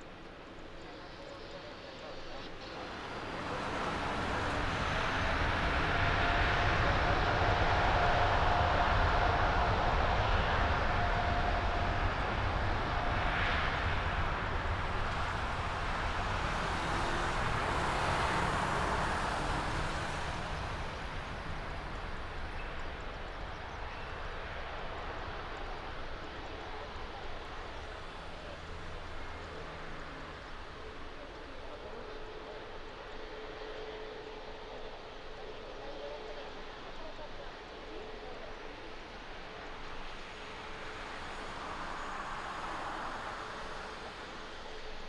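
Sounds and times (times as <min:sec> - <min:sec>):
jet engines at takeoff power: 0:00.0 - 0:45.0.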